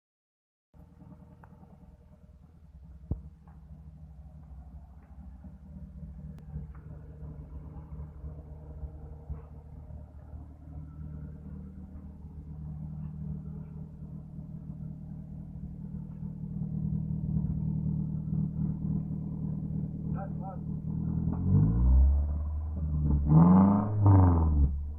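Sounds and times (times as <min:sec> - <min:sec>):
car engine rumbling at idle: 0:00.8 - 0:24.9.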